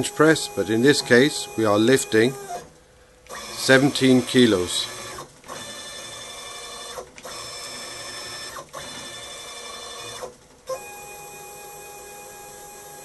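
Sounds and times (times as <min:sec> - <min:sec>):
stepper motor whine: 0:00.0 - 0:13.0.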